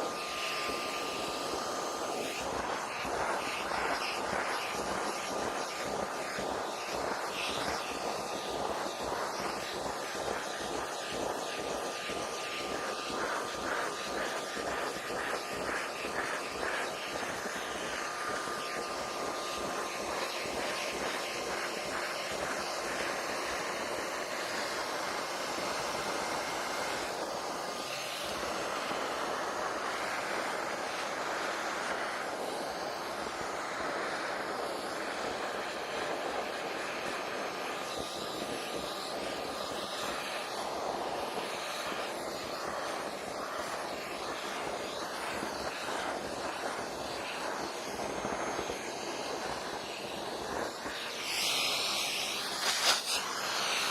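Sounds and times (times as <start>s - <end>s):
shop vac running: 0.0s - 53.9s.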